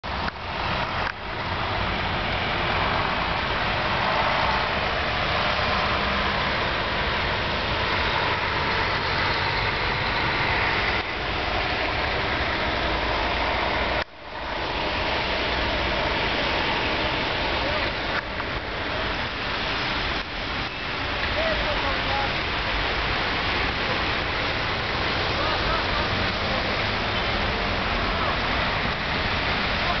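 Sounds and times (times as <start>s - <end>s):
road traffic: 0.0s - 30.0s.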